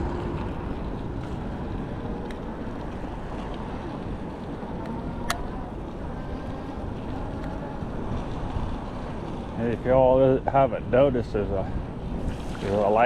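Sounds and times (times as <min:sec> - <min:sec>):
rolling noise while riding: 0:00.0 - 0:13.0
wind rumble on microphone: 0:00.0 - 0:13.0.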